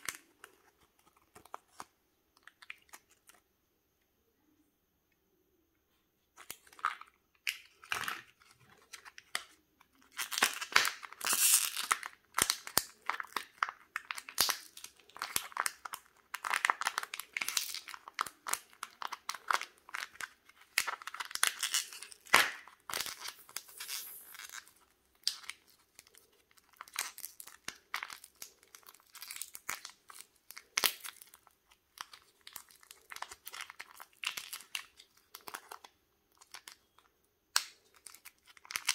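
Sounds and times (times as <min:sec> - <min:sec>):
wrapper crinkling and tearing: 0:06.4 - 0:37.0, 0:37.6 - 0:38.9.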